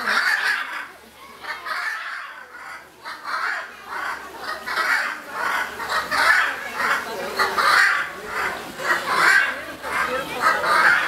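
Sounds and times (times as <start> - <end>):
macaws squawking: 0.0 - 11.0.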